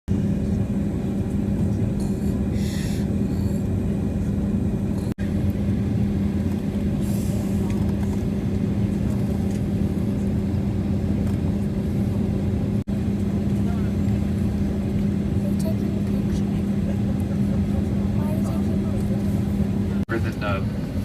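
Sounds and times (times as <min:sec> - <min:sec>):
airliner cabin rumble and hum: 0:00.1 - 0:21.0.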